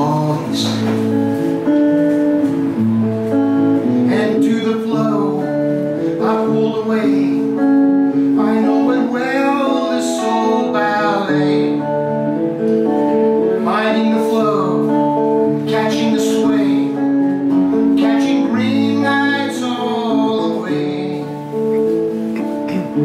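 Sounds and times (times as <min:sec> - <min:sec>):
guitar background music: 0:00.0 - 0:23.0.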